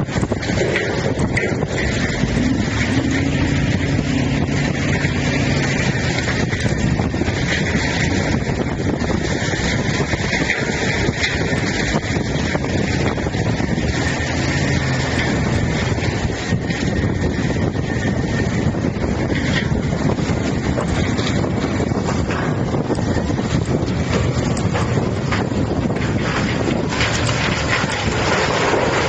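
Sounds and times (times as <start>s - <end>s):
tub grinder grinding stumps: 0.0s - 29.0s.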